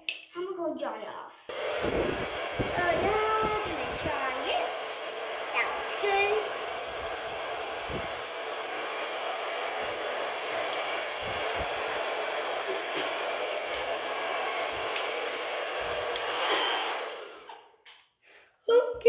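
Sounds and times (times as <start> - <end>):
hair dryer blowing air: 1.5 - 17.7.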